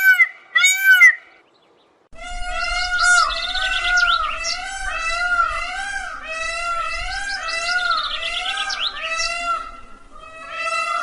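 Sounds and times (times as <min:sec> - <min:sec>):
peafowl honking call: 0:00.0 - 0:01.3, 0:02.2 - 0:11.0
chorus of birds chirping: 0:00.0 - 0:11.0.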